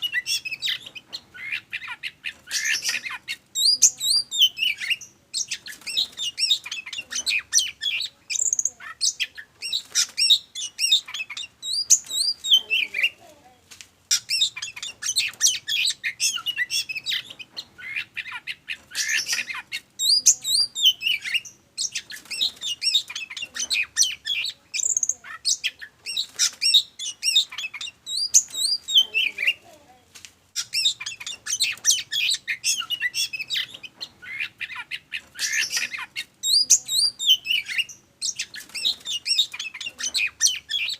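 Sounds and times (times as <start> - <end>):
songbird whistling and chirping: 0.0 - 13.2, 14.1 - 29.6, 30.6 - 40.9.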